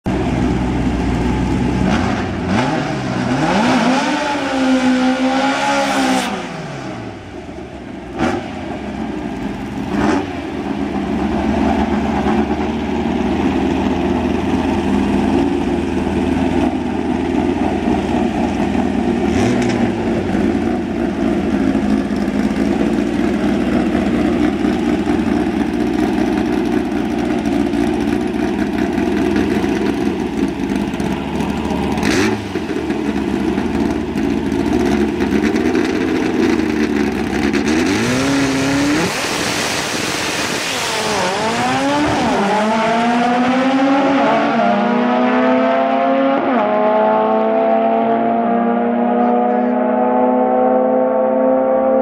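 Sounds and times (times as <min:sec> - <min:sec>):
car engines idling: 0:00.1 - 0:05.2, 0:06.3 - 0:42.8, 0:49.2 - 0:49.7
car engine revving: 0:00.1 - 0:52.0.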